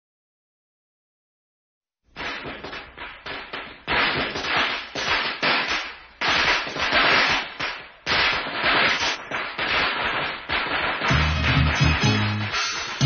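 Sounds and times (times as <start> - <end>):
firecrackers crackling: 2.1 - 13.0.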